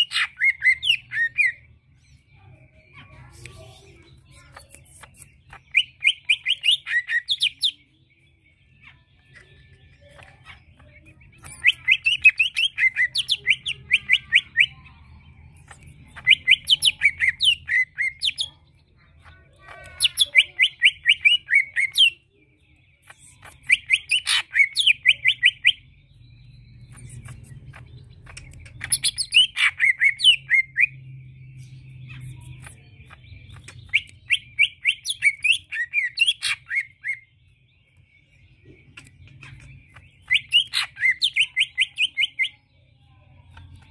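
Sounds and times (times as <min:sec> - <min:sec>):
bird singing chattering notes: 0:00.0 - 0:43.9.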